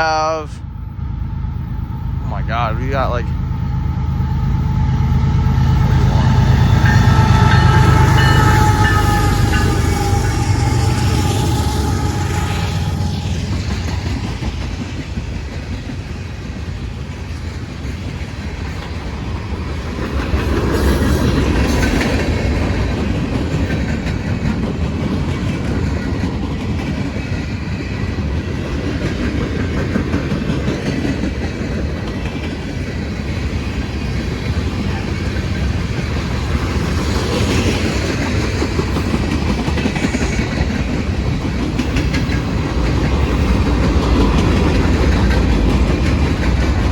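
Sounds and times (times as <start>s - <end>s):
train wheels clacking over rail joints: 5.6s - 46.9s.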